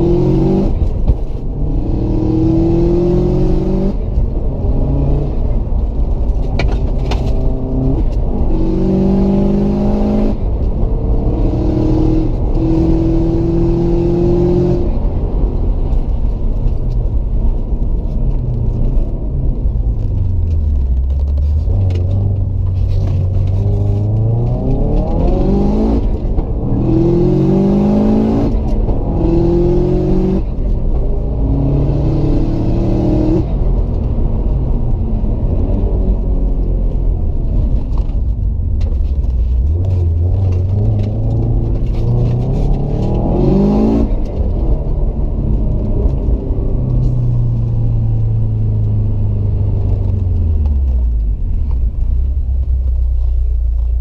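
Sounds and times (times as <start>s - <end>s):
car engine accelerating: 0.0s - 54.0s
road and tyre noise: 0.0s - 54.0s.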